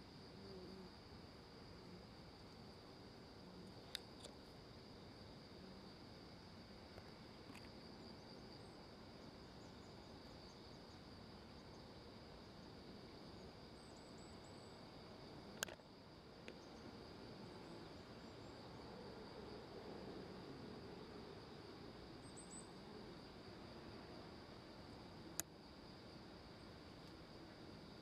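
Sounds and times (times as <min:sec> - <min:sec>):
faint high-pitched insect drone: 0:00.0 - 0:28.0.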